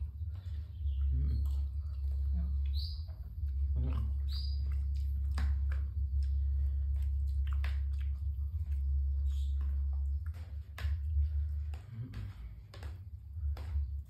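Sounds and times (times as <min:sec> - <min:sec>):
low hum: 0:00.0 - 0:14.0
wet chewing and smacking: 0:00.0 - 0:14.0.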